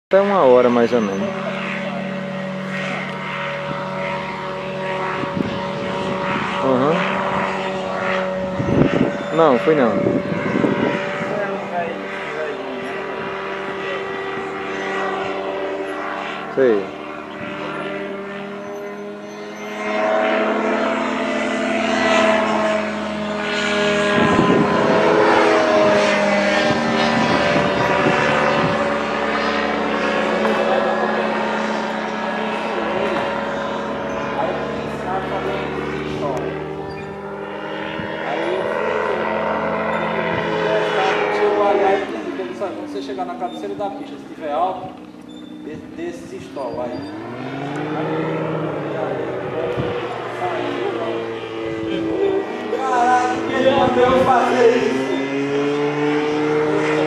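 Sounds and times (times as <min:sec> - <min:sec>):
aircraft engine and propeller droning: 0:00.1 - 0:57.0.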